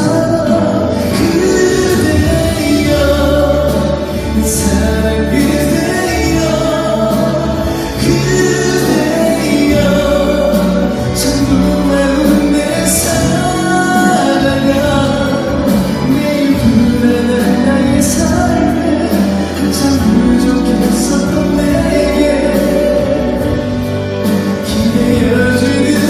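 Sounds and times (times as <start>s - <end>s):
backing track: 0.0s - 26.0s
man singing a pop ballad: 0.0s - 26.0s.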